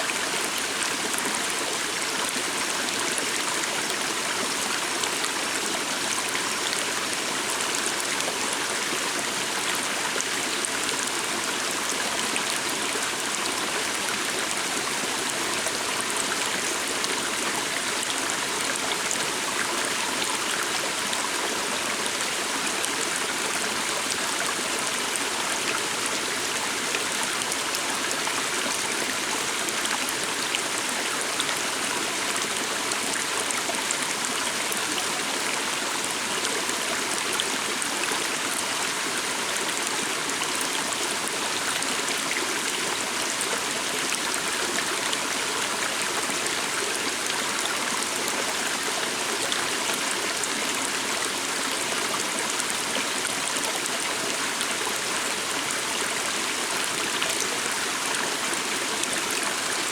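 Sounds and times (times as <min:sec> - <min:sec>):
water stream flowing: 0:00.0 - 0:59.9.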